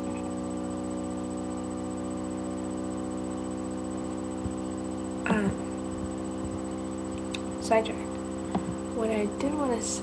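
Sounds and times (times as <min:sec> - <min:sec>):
microphone electrical hum and buzz: 0:00.0 - 0:10.0.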